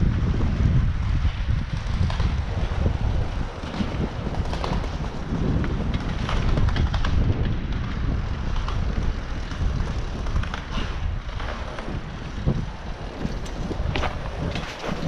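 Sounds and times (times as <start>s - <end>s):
tyre noise on asphalt: 0.0s - 15.0s
wind buffeting microphone: 0.0s - 15.0s.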